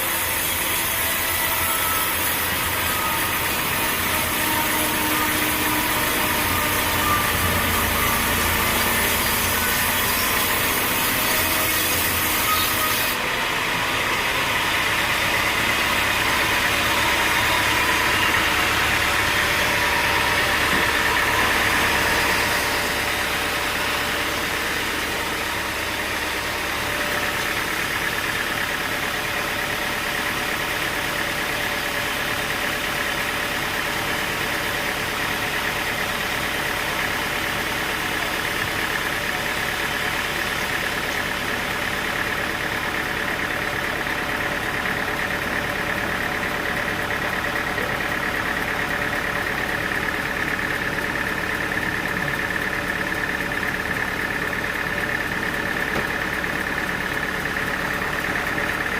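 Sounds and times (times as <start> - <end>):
engine running steadily: 0.0 - 58.9
saw cutting wood: 0.0 - 58.9.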